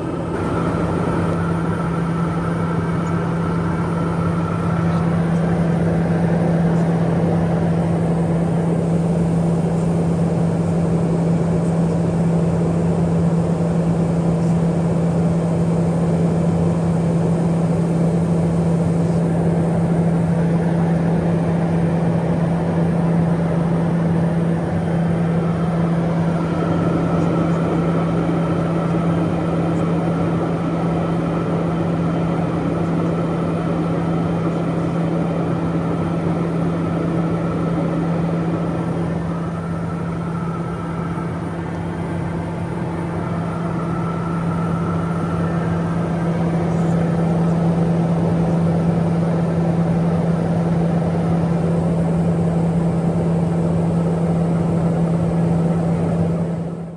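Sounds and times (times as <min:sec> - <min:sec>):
turboprop engine drone: 0:00.0 - 0:56.9.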